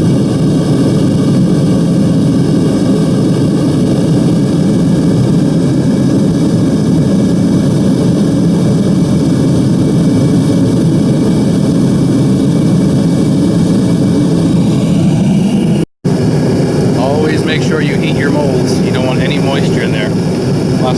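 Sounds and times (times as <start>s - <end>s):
furnace burner rushing: 1.6s - 20.9s.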